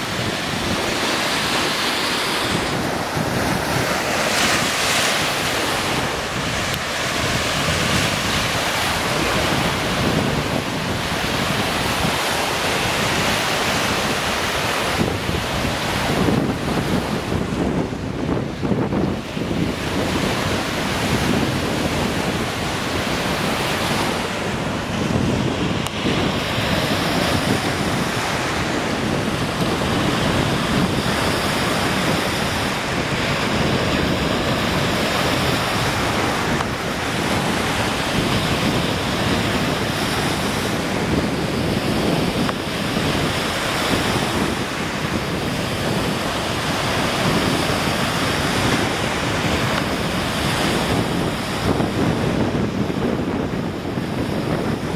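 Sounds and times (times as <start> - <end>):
waves washing onto a beach: 0.0 - 54.9
wind buffeting the microphone: 0.0 - 54.9.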